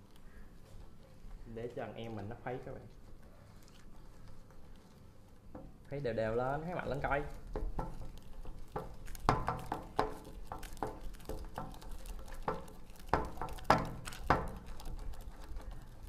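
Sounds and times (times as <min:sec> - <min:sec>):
whisk beating batter: 0:01.8 - 0:16.0.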